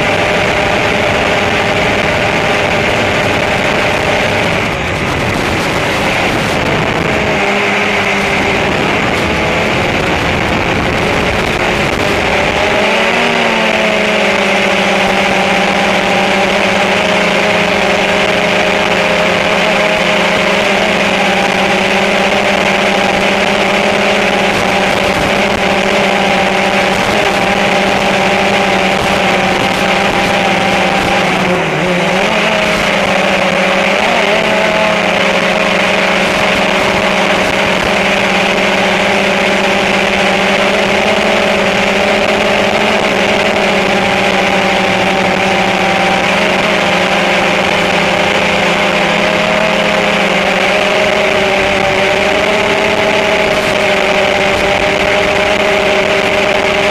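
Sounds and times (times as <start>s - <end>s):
drone propellers whining: 0.0s - 56.9s.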